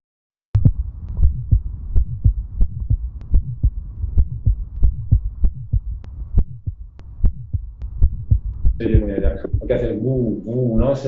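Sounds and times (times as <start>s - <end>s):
quick regular heartbeat: 0.6s - 11.0s
vibratory heart murmur: 0.6s - 11.0s.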